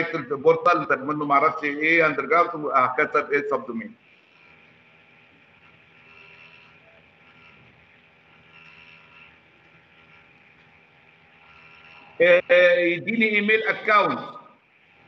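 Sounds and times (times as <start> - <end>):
room noise hum and hiss: 0.0 - 15.0.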